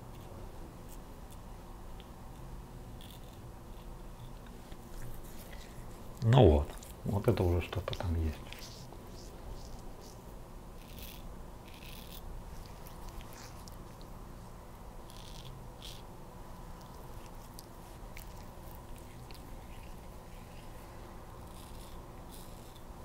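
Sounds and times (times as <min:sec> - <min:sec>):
steady low hum: 0:00.0 - 0:23.0
razor scraping stubble: 0:02.3 - 0:14.1, 0:15.0 - 0:16.1, 0:16.7 - 0:22.9.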